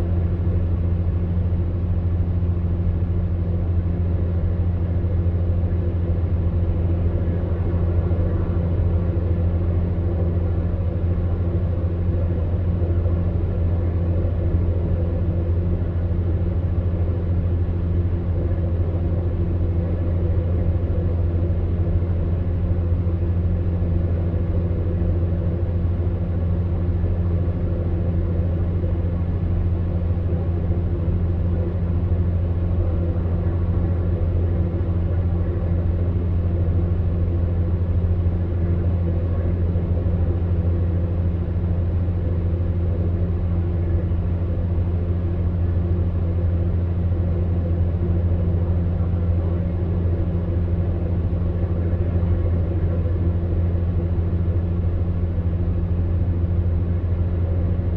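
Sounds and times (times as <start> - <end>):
fan heater humming: 0.0 - 57.9.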